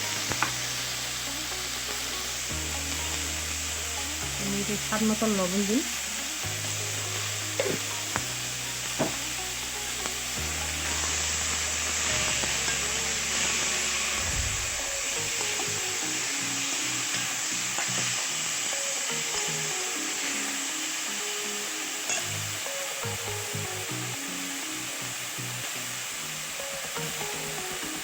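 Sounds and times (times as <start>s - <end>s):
filling sizzling in hot oil: 0.0s - 28.0s.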